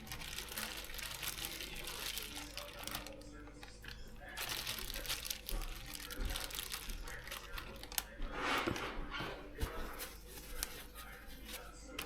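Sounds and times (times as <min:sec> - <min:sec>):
crinkling and rustling of breading: 0:00.0 - 0:12.0.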